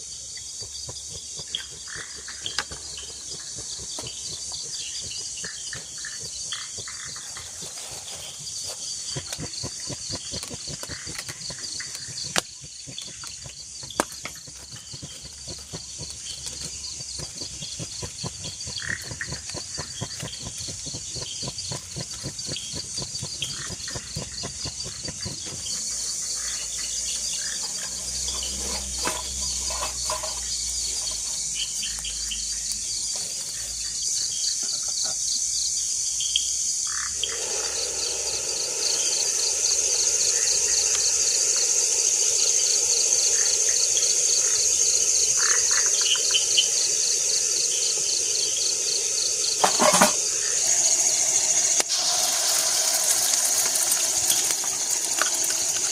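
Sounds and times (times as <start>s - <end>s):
crickets trilling: 0.0s - 55.9s
frogs calling: 0.0s - 55.9s
insects hissing: 0.0s - 55.9s.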